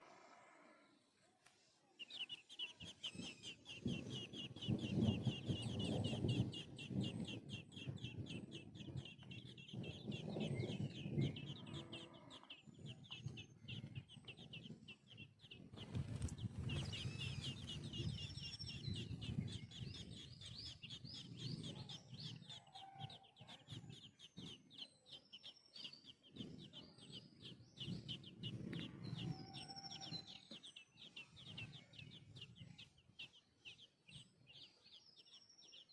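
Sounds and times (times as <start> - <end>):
adult bird calls: 2.0 - 33.8
baby birds cheeping: 2.0 - 35.9.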